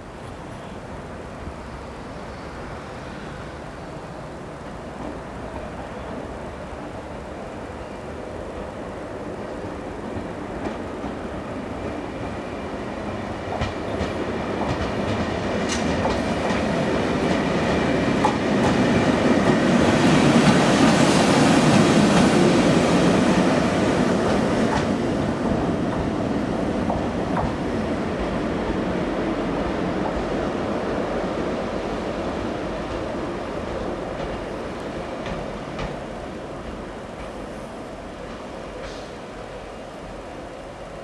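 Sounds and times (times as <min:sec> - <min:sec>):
train running on rails: 0:00.0 - 0:41.0.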